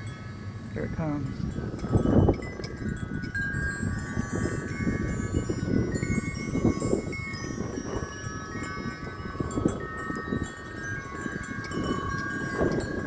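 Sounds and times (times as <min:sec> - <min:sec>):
wind buffeting microphone: 0:00.0 - 0:13.0
wind chimes ringing: 0:00.0 - 0:13.0.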